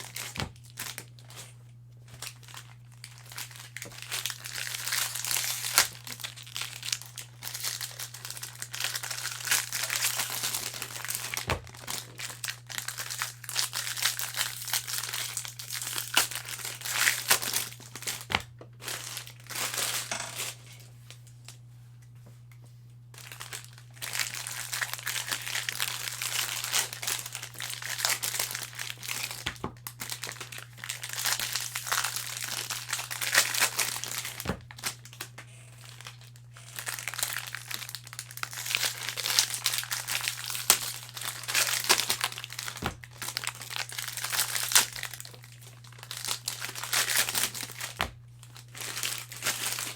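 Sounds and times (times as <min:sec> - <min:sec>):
foil wrappers crinkling and tearing: 0:00.0 - 0:21.6, 0:23.1 - 0:49.9.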